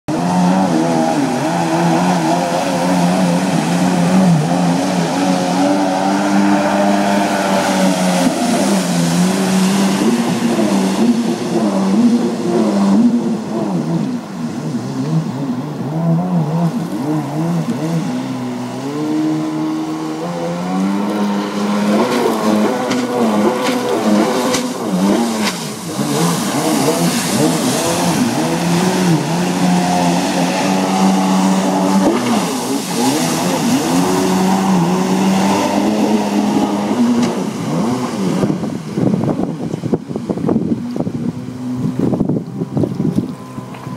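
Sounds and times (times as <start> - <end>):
jet ski engine running hard: 0.1 - 43.9.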